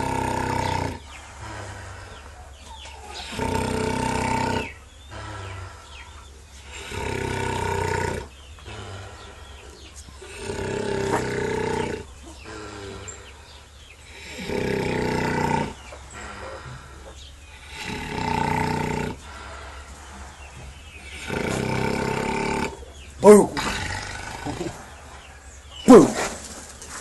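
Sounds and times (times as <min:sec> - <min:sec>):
pig snoring: 0:00.0 - 0:02.2, 0:03.1 - 0:05.8, 0:06.6 - 0:25.0
quiet breathing: 0:00.0 - 0:23.1.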